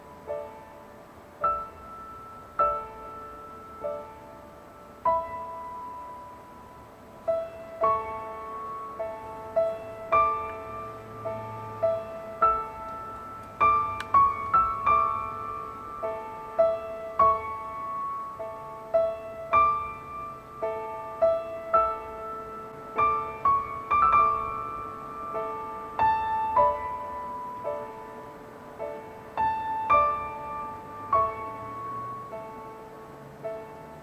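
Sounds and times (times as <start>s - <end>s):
piano music: 0.0s - 34.0s.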